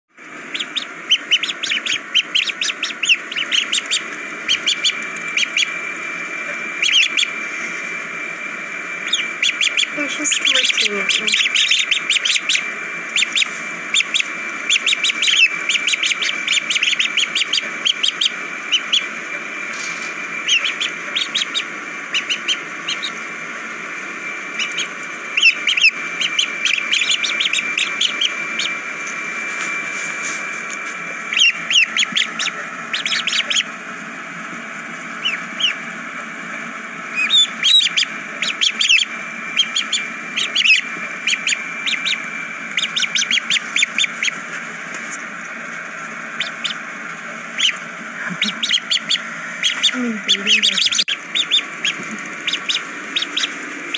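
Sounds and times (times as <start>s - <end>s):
ducklings peeping: 0.2s - 53.9s.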